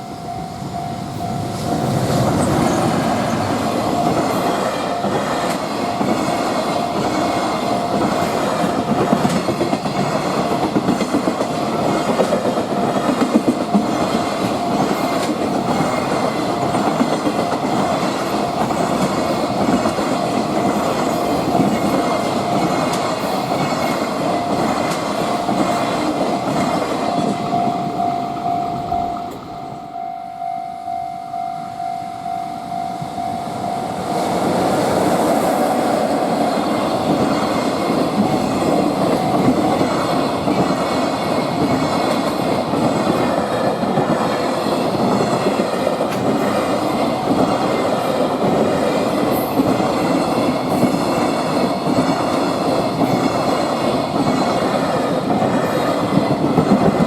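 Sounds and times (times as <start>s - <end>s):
freight train wheels clacking: 0.0s - 30.0s, 33.0s - 57.0s
steady high tone: 0.0s - 56.2s.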